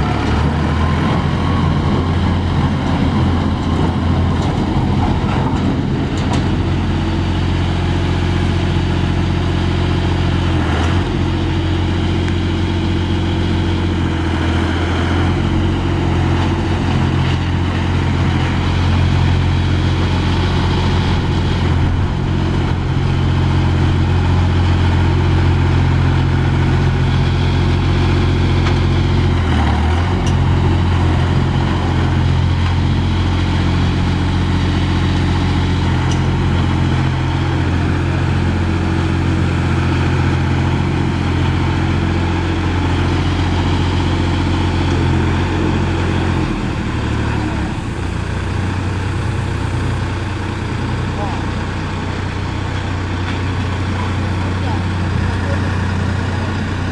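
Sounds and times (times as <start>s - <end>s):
road roller engine running: 0.0s - 56.9s.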